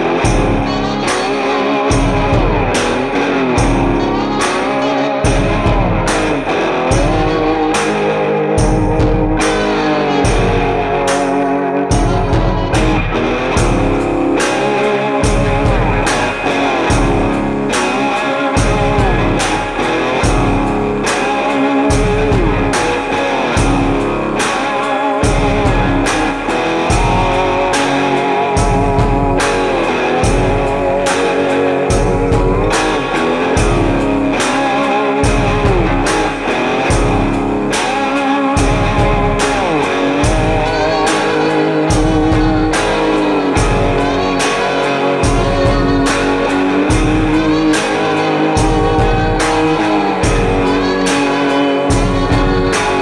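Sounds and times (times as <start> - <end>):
rock music with guitar and drums: 0.0 - 53.0.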